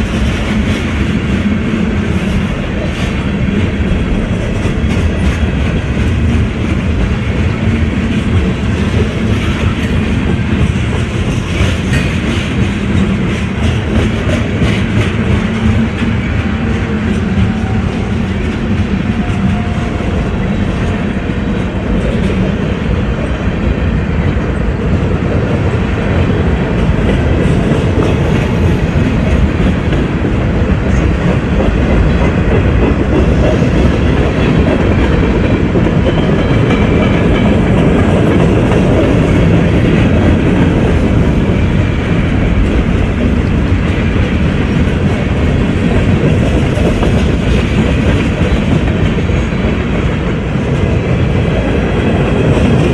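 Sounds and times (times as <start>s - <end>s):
railroad cars rolling past: 0.0s - 52.9s.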